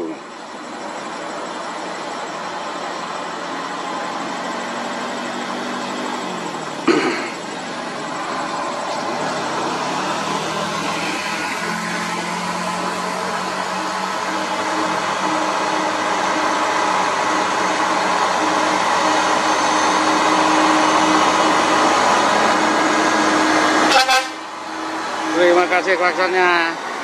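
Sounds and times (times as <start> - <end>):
diesel truck engine pulling uphill: 0.0 - 27.0.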